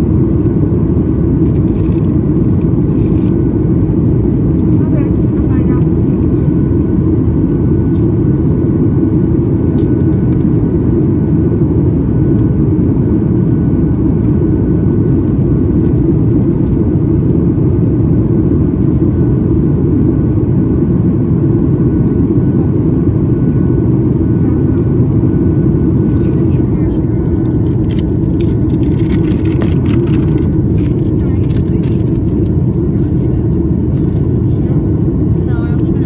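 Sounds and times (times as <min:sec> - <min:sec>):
jet engine roar in cabin: 0:00.0 - 0:36.0.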